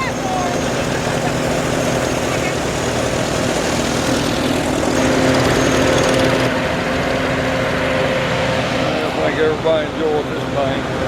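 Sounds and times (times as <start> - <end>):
tractor engines driving by: 0.0 - 11.0.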